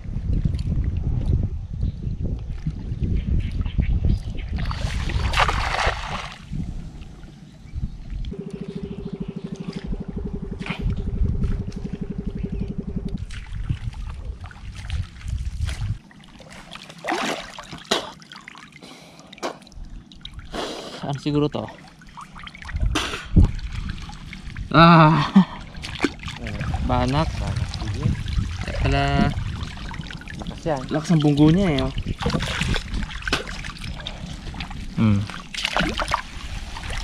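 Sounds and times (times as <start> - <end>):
low pulsing hum: 0.0 - 17.0, 21.2 - 37.0
water splashing and sloshing: 0.0 - 37.0.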